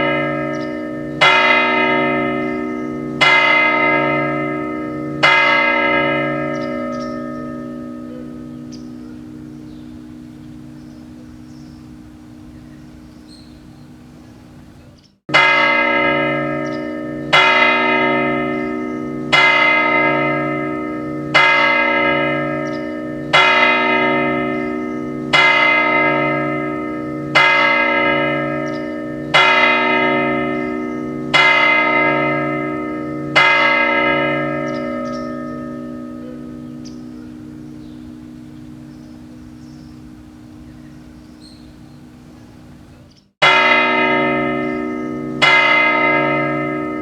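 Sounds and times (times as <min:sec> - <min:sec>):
clock bell striking: 0:00.0 - 0:12.3, 0:15.3 - 0:40.8, 0:43.4 - 0:47.0.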